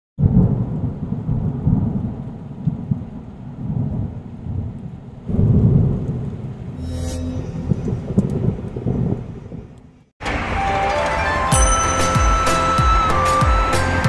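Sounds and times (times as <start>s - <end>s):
thunder rolling: 0.2s - 11.5s.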